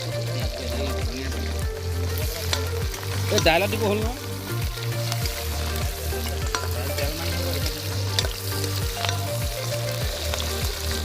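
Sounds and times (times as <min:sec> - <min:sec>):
food sizzling in a wok: 0:00.0 - 0:11.0
low thumping beat: 0:00.0 - 0:11.0
sharp ticks and crackles: 0:00.0 - 0:11.0.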